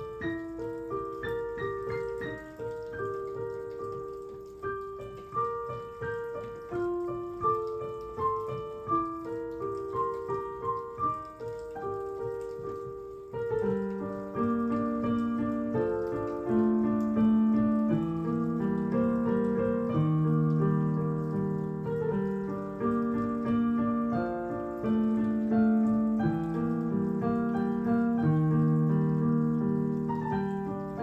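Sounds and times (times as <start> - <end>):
slow piano melody: 0.0 - 31.0.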